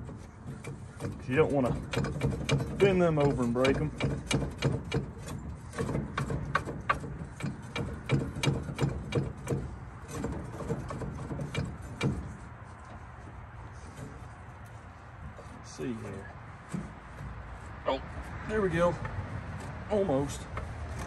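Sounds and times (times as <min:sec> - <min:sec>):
tool clicking and knocking on metal: 0:00.0 - 0:13.0, 0:15.4 - 0:17.4, 0:18.9 - 0:21.0.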